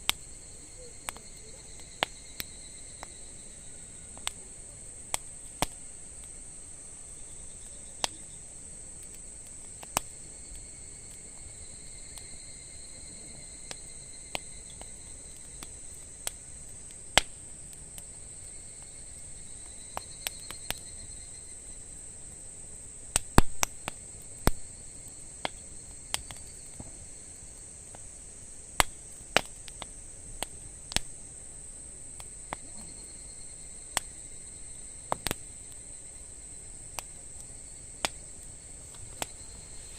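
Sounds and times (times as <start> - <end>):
insect trill: 0.0 - 39.9
wood fire crackling and popping: 0.0 - 39.9.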